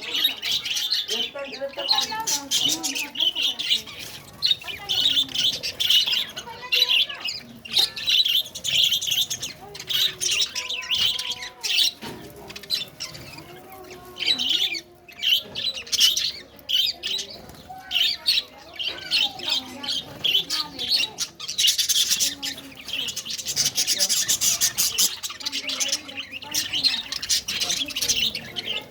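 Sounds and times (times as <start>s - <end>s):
birds chirping and squawking: 0.0s - 28.9s.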